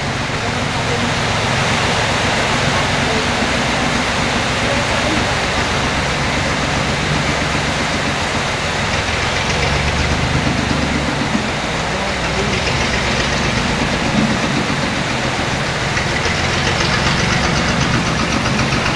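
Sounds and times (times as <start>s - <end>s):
heavy rain hissing: 0.0s - 18.9s
road roller diesel engine: 0.0s - 18.9s.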